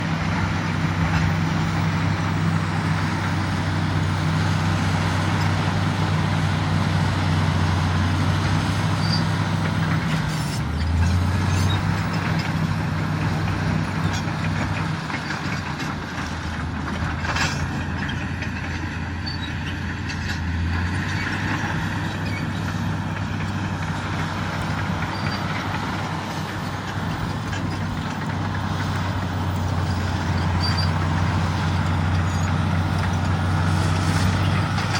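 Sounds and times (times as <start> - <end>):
bulldozer diesel engine running: 0.0 - 34.9.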